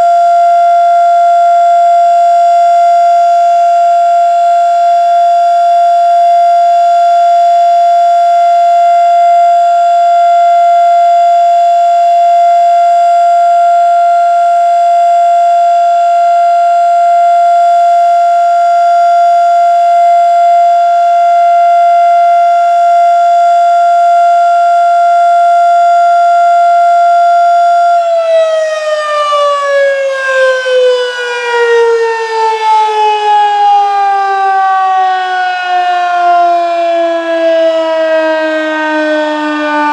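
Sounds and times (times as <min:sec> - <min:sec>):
tornado siren: 0:00.0 - 0:39.9.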